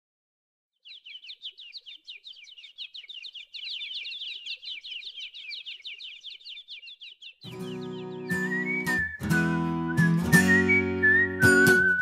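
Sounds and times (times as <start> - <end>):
birds chirping: 0.8 - 12.0.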